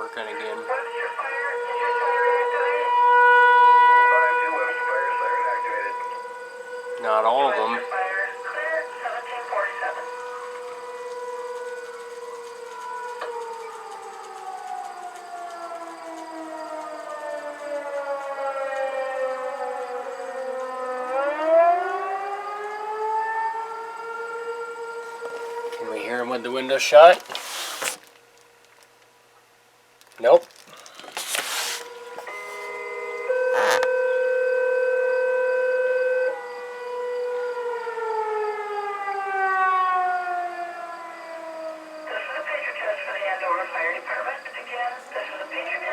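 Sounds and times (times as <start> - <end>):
fire warning siren winding down: 0.0 - 28.7, 30.2 - 45.9.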